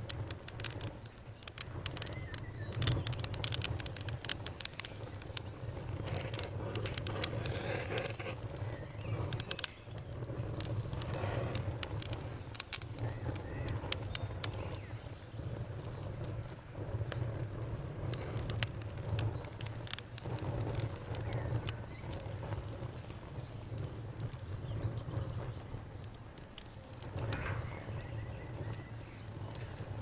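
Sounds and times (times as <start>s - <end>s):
campfire crackling and popping: 0.0s - 30.0s
cricket trill: 0.0s - 30.0s
frogs croaking: 0.0s - 30.0s.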